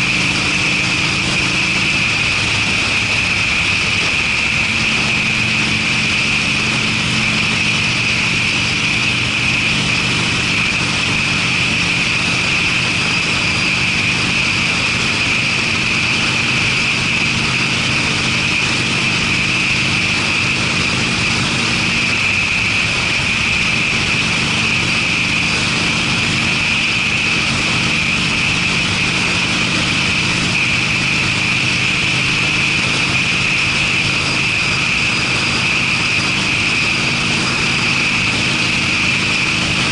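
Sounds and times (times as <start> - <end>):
motorcycle engine running: 0.0 - 39.9
rushing wind noise: 0.0 - 39.9.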